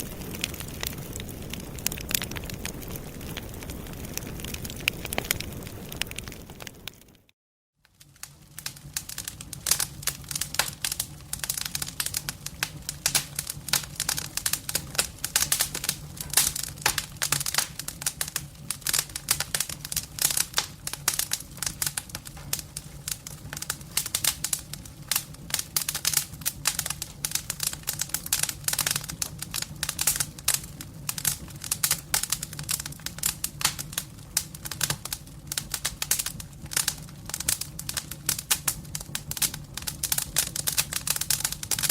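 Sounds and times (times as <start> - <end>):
low rumble of flames: 0.0 - 7.3, 7.9 - 41.9
wood crackling and popping: 0.0 - 41.9.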